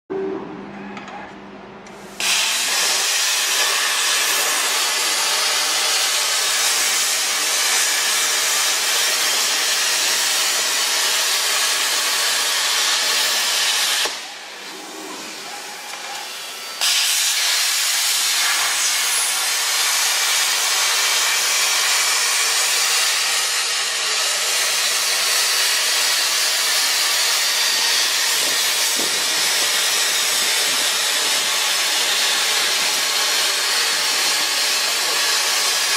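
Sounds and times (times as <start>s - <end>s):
plasma torch hissing: 2.0s - 35.9s.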